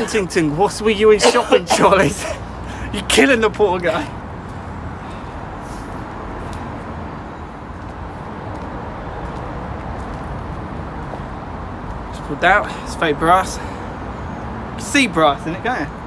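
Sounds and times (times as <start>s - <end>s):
distant road traffic rumble: 0.0s - 16.0s.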